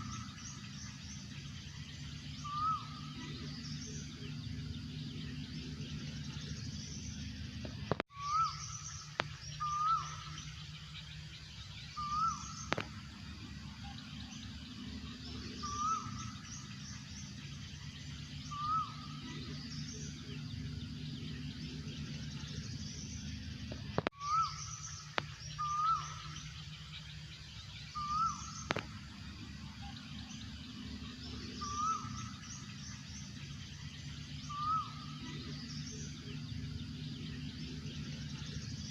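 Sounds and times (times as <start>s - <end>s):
low hum: 0.0s - 38.9s
small birds chirping: 0.0s - 38.9s.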